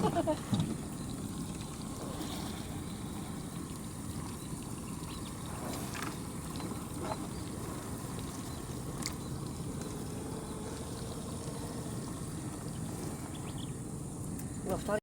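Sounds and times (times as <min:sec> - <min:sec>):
water rumbling around a boat: 0:00.0 - 0:15.0.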